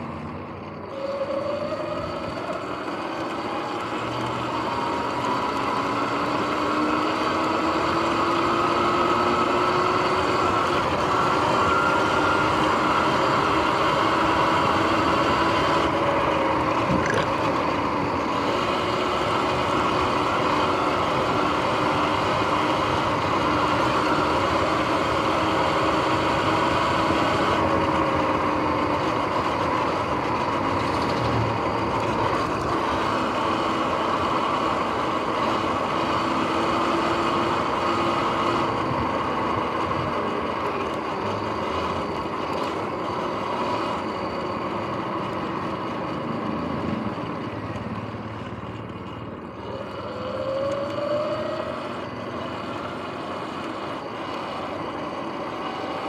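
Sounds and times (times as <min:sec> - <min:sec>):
electric motor whine: 0:00.0 - 0:56.0.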